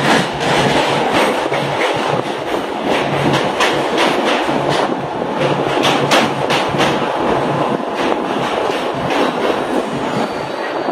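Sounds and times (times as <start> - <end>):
train wheels clacking: 0.0 - 10.4
train rumbling: 0.0 - 10.9.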